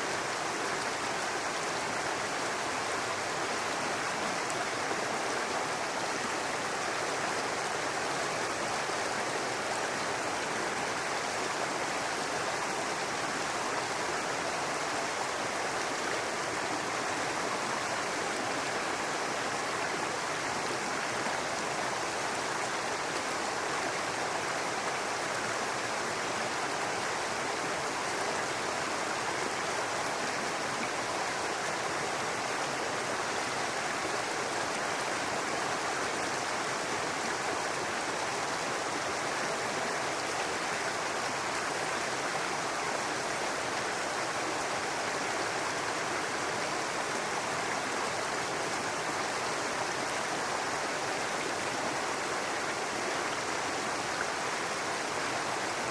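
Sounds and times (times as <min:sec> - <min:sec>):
brook babbling over rocks: 0:00.0 - 0:55.9.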